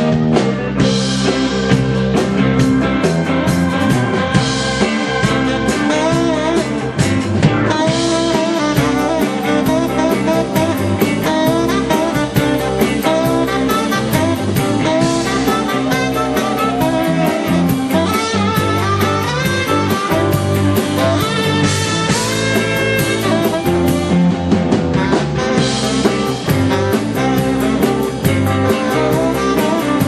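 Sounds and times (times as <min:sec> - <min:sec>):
live rock band playing: 0:00.0 - 0:30.0
saxophone melody: 0:00.0 - 0:30.0.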